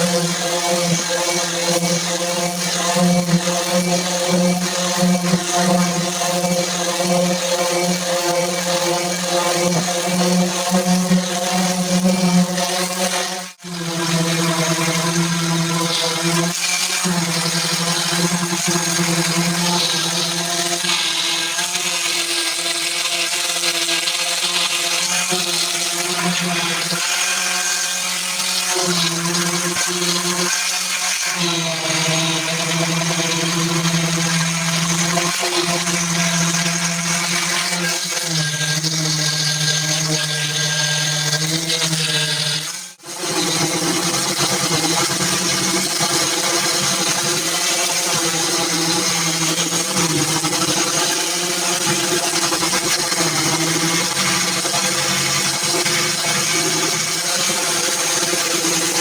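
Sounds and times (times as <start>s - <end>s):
power sander on metal panel: 0.0s - 59.0s.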